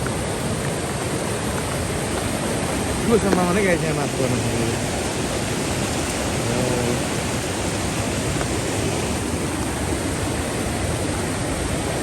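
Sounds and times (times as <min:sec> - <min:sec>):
loud rush of river water: 0:00.0 - 0:12.0.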